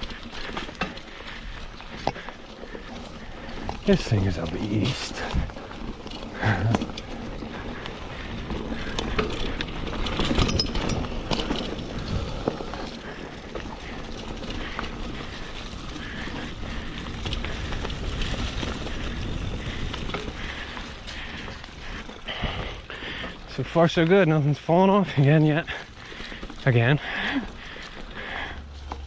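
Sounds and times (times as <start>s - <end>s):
bike knocking and clicking: 0.0s - 29.0s
bike tyres rolling on dirt: 0.0s - 29.0s.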